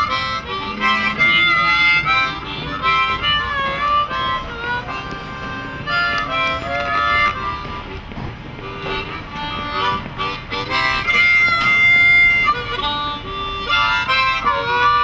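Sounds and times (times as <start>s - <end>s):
harmonica melody: 0.0s - 15.0s.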